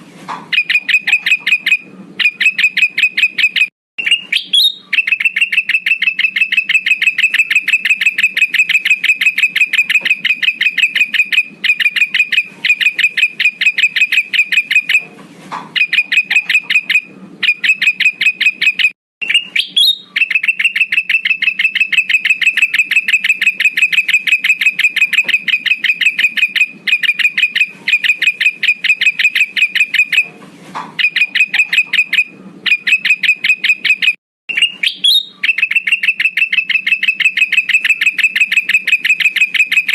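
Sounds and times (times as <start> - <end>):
bulbul high chattering calls: 0.6 - 15.1, 15.8 - 30.3, 31.0 - 39.9.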